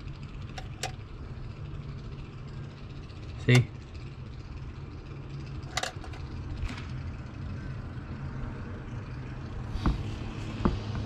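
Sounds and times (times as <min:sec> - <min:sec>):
machine humming with faint hiss: 0:00.0 - 0:11.0.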